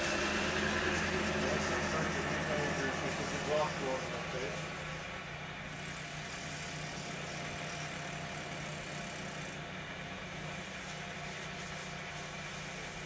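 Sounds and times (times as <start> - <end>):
constant hiss: 0.0 - 13.0
vehicle engine running: 0.0 - 13.0.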